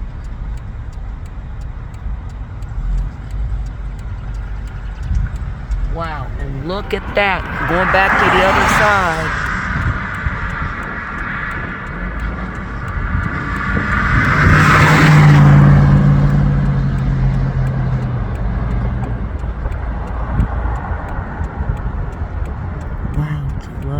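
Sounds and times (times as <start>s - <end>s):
car driving past: 0.0s - 23.2s.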